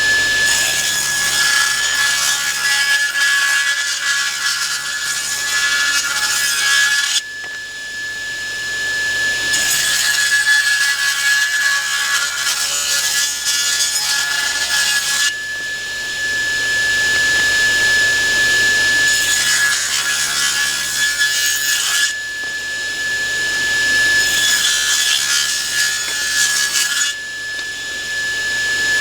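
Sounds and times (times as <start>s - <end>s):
saw cutting boards: 0.0s - 29.0s
table saw blade whine: 0.0s - 29.0s.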